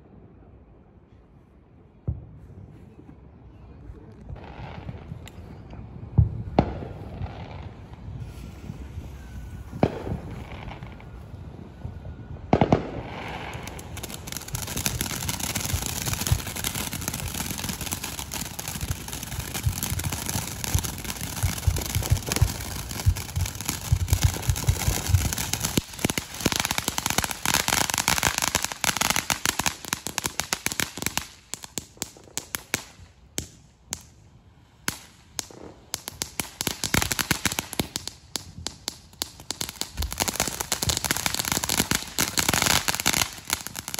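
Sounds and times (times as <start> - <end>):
firework fountain hissing and crackling: 6.6 - 43.9.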